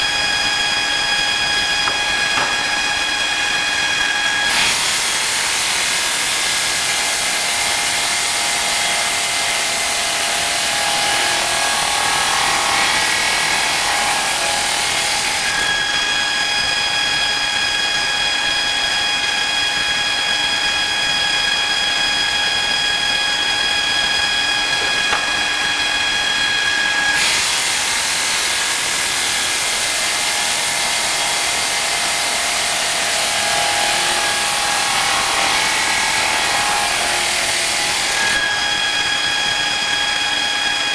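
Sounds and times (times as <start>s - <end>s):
diamond saw cutting granite: 0.0s - 17.7s, 21.6s - 40.9s.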